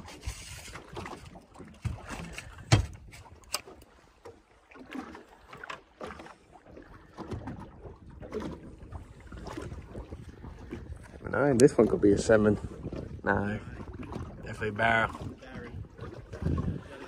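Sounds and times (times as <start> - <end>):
knocks and thumps on boat: 0.0 - 17.0.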